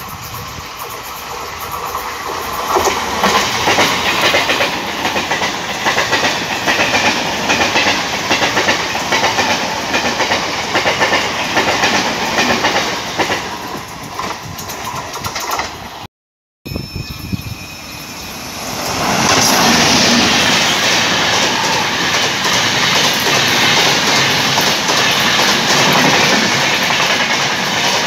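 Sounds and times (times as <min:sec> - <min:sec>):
train wheels clickety-clack: 0:00.0 - 0:16.1, 0:18.8 - 0:28.0.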